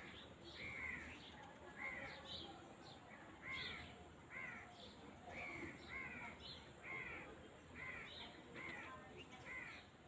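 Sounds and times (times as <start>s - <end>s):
low outdoor background noise: 0.0s - 10.0s.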